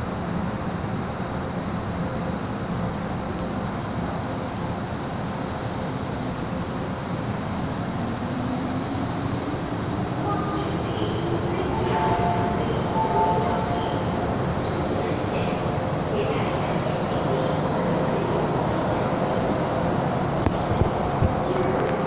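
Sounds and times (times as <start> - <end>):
train standing rumble: 0.0 - 22.0
train traction motor whine: 0.0 - 22.0.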